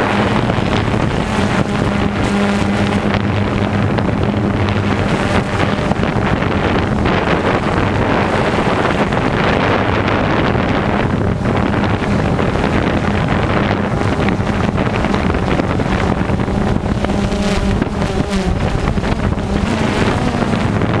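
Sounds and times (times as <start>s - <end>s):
drone propellers humming: 0.0s - 21.0s
wind buffeting microphone: 0.0s - 21.0s.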